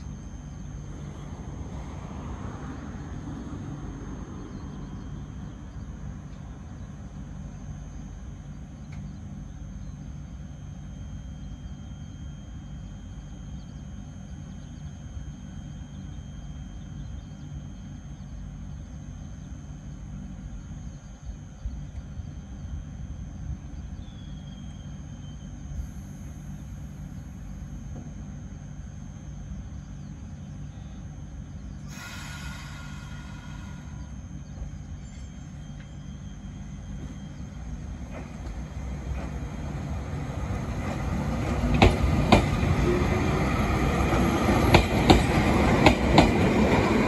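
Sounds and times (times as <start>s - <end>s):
electric train humming: 0.0s - 47.0s
faint high whine: 0.0s - 47.0s.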